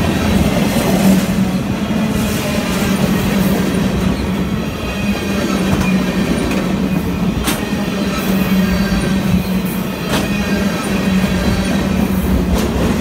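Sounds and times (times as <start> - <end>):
sharp train clacks: 0.0 - 13.0
train wheels rumbling on rails: 0.0 - 13.0.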